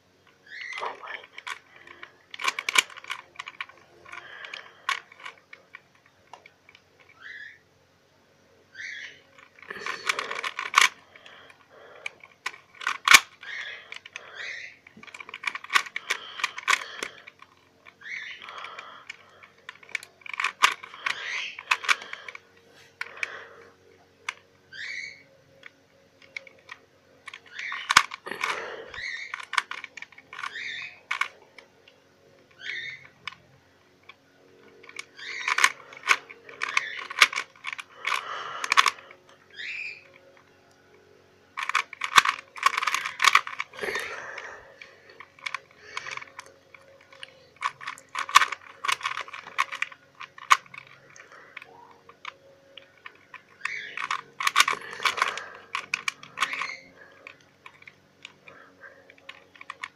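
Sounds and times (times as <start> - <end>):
plastic puzzle cube clicking: 0.2 - 7.6, 8.8 - 59.9.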